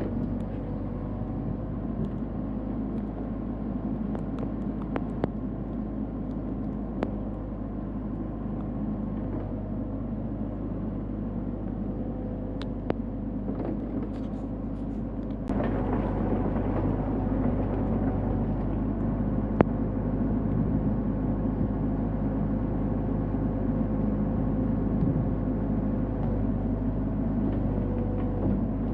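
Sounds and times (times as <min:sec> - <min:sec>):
excavator engine running: 0:00.0 - 0:28.9.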